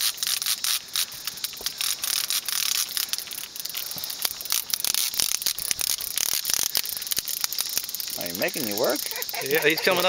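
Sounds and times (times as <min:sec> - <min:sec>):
hiss: 0:00.0 - 0:10.0
fishing reel clicking: 0:00.1 - 0:10.0.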